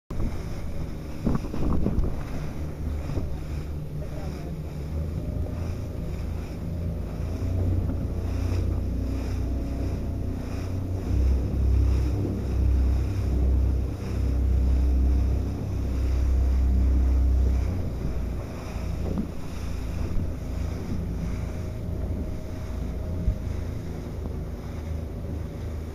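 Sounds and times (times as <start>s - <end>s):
water rushing and splashing: 0.1s - 25.9s
wind buffeting microphone: 0.1s - 25.9s.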